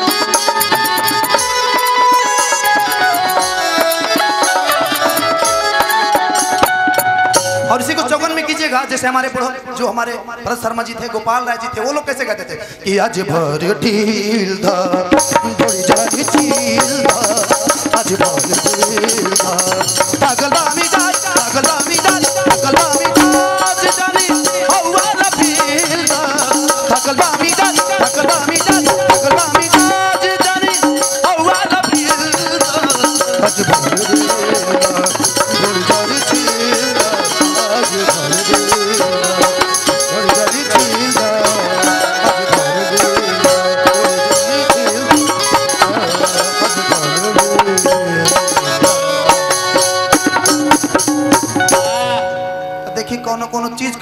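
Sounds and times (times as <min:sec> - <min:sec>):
steady percussion beat: 0:00.0 - 0:08.5, 0:14.7 - 0:52.4
man singing into a microphone: 0:07.3 - 0:54.0.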